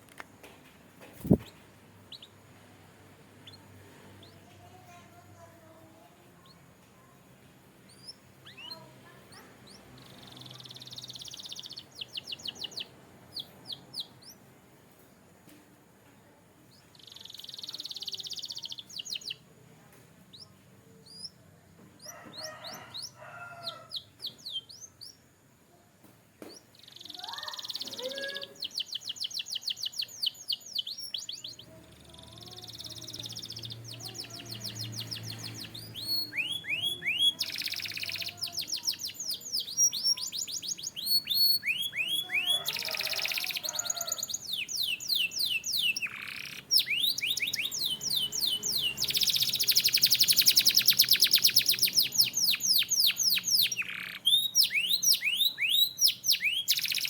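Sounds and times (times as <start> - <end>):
canary singing: 1.2 - 6.7, 7.7 - 14.5, 16.7 - 19.5, 20.3 - 21.4, 22.0 - 25.4, 26.5 - 57.0.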